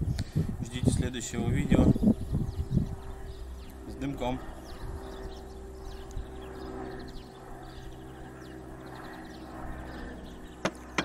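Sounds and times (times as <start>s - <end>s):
small birds twittering: 0.0s - 11.0s
steady low hum: 0.0s - 11.0s.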